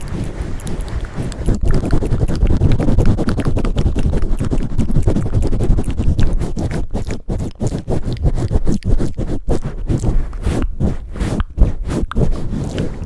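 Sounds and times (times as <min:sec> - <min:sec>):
scratching against microphone: 0:00.0 - 0:13.0.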